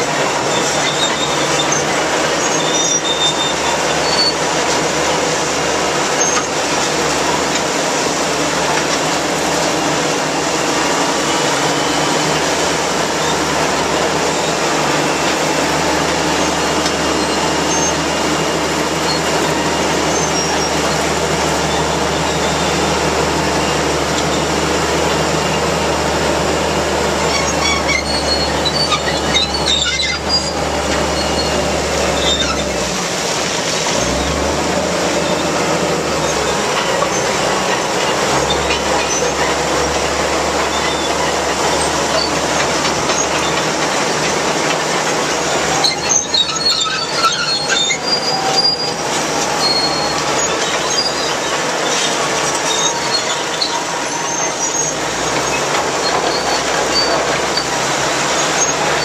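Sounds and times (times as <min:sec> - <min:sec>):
bulldozer diesel engines running: 0:00.0 - 0:59.0
high wheel squeals: 0:00.0 - 0:59.0
rail wagons rolling: 0:00.0 - 0:59.0.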